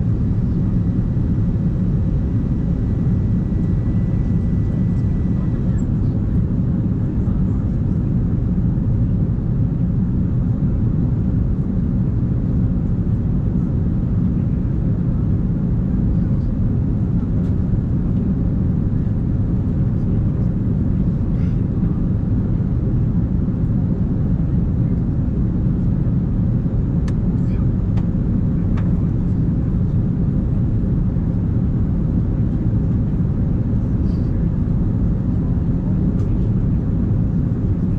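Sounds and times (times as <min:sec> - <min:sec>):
airliner cabin roar: 0:00.0 - 0:37.9.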